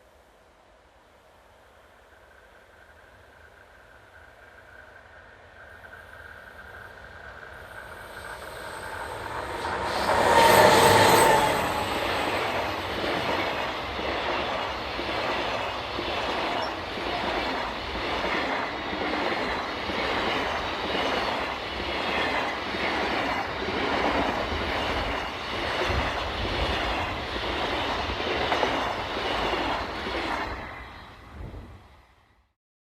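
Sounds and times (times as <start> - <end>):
freight train passing: 1.8 - 32.5.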